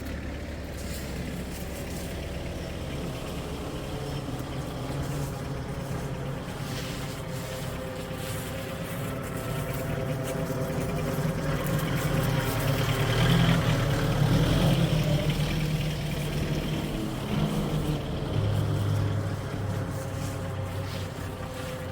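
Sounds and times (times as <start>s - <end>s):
forklift diesel engine running: 0.0s - 21.9s.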